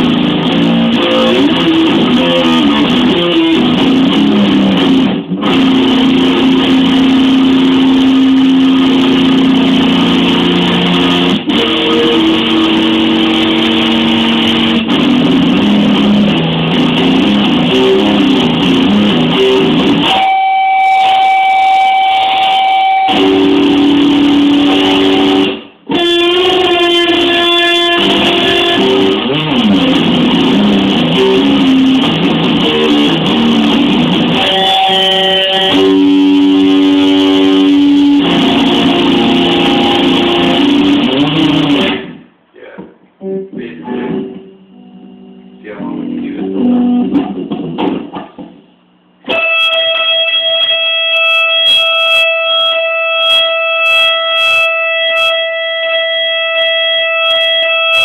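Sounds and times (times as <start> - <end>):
electric guitar sustained chords: 0.0 - 42.3, 43.2 - 48.6, 49.2 - 58.0
picked guitar notes: 0.0 - 58.0.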